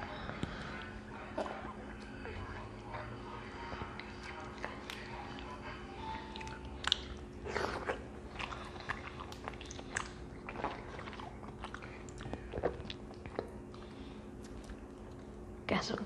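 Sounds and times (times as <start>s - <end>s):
chewing and lip-smacking: 0.0s - 15.4s.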